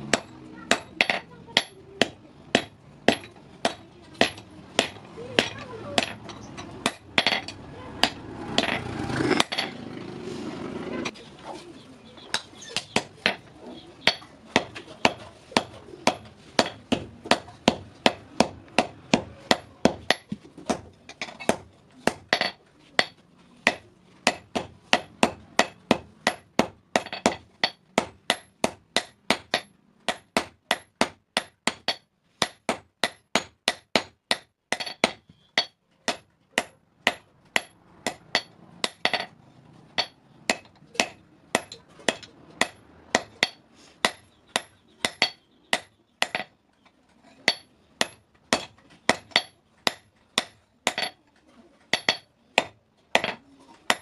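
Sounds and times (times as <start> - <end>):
hammer striking steel on anvil: 0.0 - 9.7, 14.0 - 39.3, 40.0 - 46.5, 47.4 - 51.2, 51.9 - 54.0.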